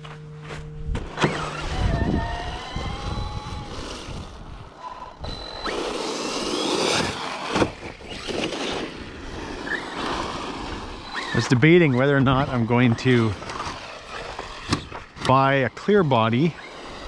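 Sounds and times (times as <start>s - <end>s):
electric motor whining: 0.0s - 17.0s
tyre and ground noise: 0.0s - 17.0s.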